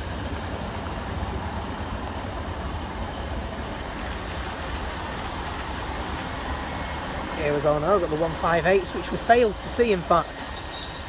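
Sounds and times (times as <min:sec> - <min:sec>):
diesel trains rumbling: 0:00.0 - 0:11.0.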